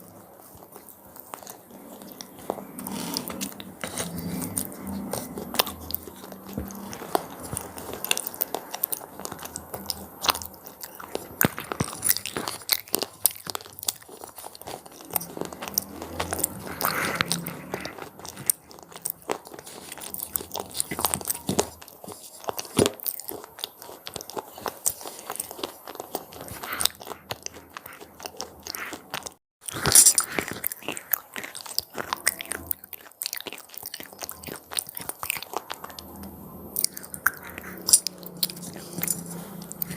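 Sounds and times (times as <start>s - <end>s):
crunchy snacks being chewed: 0.0s - 39.9s.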